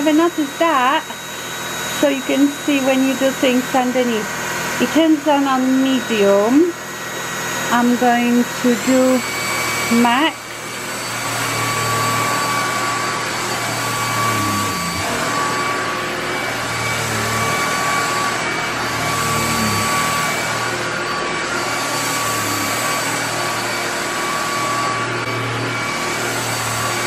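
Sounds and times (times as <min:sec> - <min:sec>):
stick vacuum running: 0:00.0 - 0:27.0.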